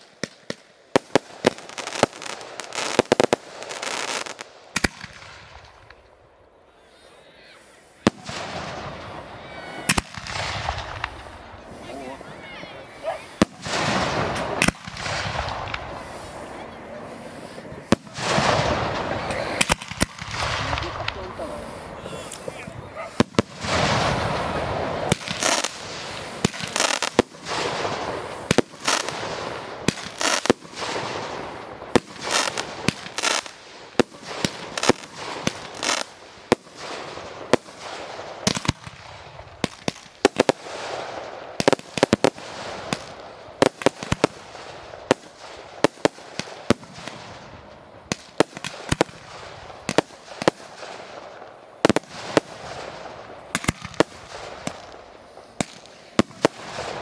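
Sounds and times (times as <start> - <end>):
fireworks bangs: 0.0 - 6.2, 7.6 - 57.0
fireworks crackling: 0.0 - 57.0.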